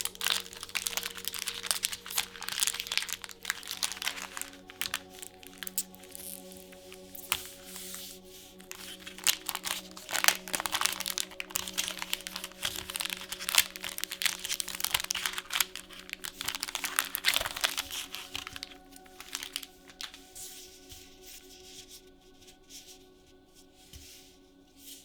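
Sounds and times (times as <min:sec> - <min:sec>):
plastic wrapper crinkling and tearing: 0:00.0 - 0:21.2
background music: 0:00.0 - 0:25.0.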